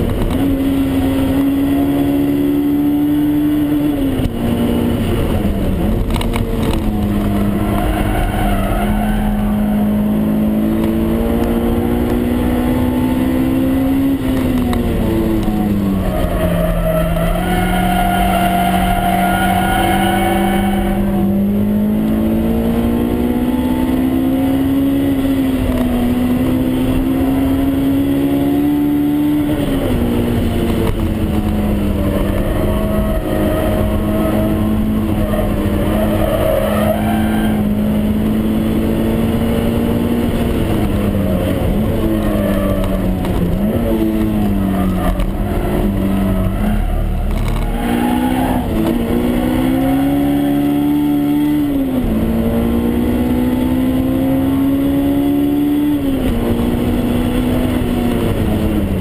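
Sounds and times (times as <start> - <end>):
car engine revving high: 0.0 - 59.0
road and wind noise: 0.0 - 59.0.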